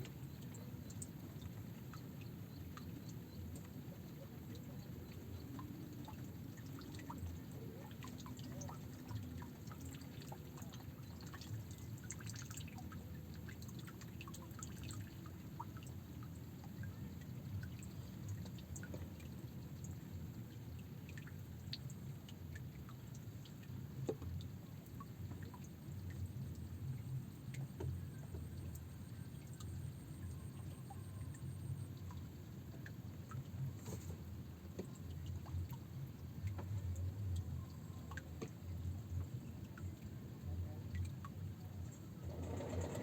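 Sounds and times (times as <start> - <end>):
faint ticks: 0.0 - 20.0, 21.2 - 40.1
water lapping and dripping: 0.0 - 43.0.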